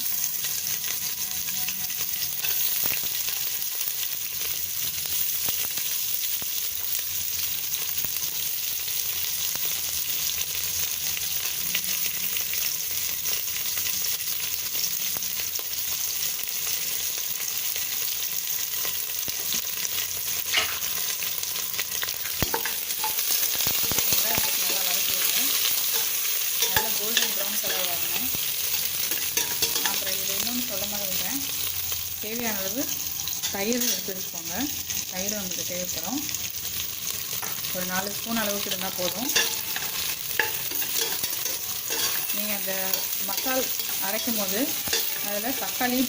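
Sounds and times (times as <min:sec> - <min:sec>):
onions sizzling in oil: 0:00.0 - 0:46.0.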